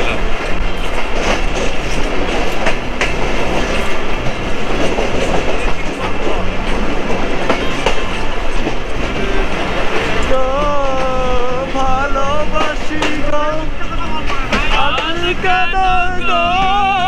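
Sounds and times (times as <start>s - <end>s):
train rumble: 0.0s - 17.0s
train wheels clattering: 0.0s - 17.0s.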